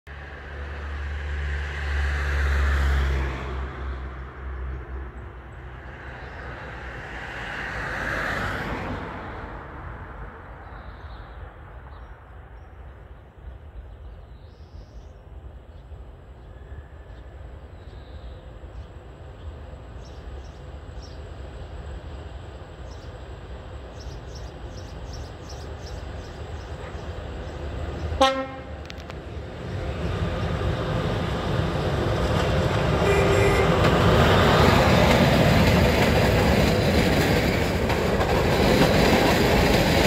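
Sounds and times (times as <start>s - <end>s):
outdoor background: 0.0s - 40.0s
passing train rushing: 0.1s - 40.0s.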